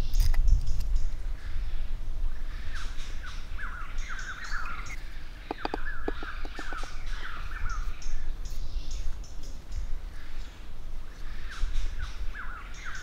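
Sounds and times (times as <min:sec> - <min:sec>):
bird calling: 0:02.4 - 0:13.0.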